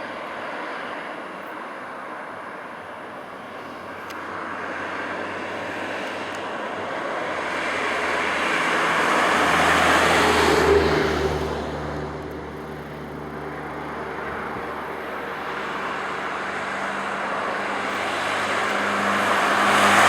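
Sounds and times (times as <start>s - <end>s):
broad rushing noise: 3.6s - 20.0s.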